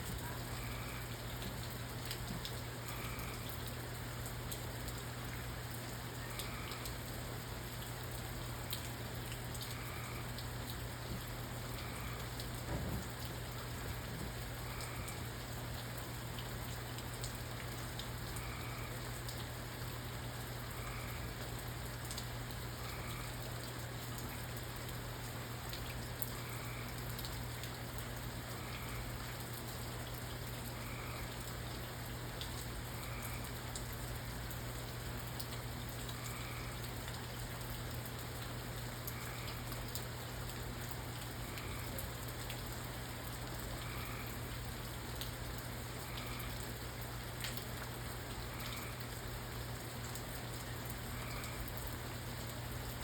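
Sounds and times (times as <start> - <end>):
low steady hum: 0.0 - 53.0
raindrops ticking on a surface: 0.0 - 53.0
steady rain falling: 0.0 - 53.0.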